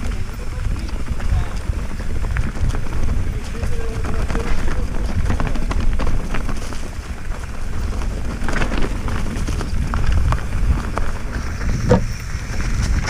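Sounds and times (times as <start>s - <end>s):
bike rattling: 0.0s - 13.0s
tyres crunching over stones: 0.0s - 13.0s.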